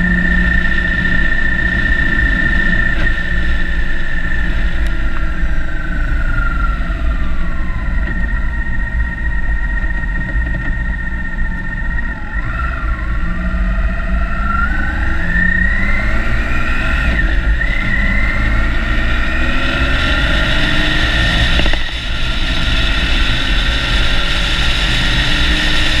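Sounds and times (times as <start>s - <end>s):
motorbike engine accelerating: 0.0s - 26.0s
wind rumble on microphone: 0.0s - 26.0s.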